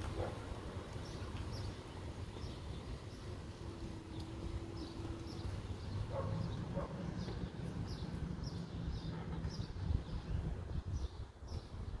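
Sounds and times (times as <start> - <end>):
bird chirping: 1.0 - 12.0.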